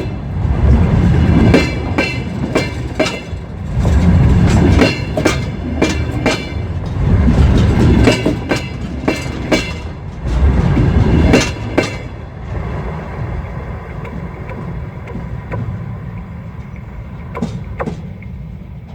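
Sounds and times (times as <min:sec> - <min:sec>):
train rumble: 0:00.0 - 0:18.9
freight wagon wheels clattering: 0:00.5 - 0:18.2.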